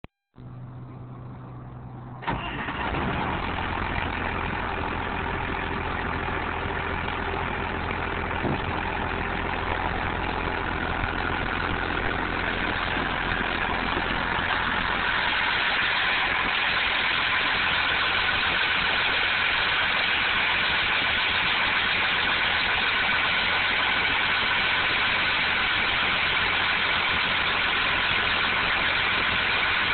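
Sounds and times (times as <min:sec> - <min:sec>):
diesel truck engine idling: 0:00.4 - 0:29.9.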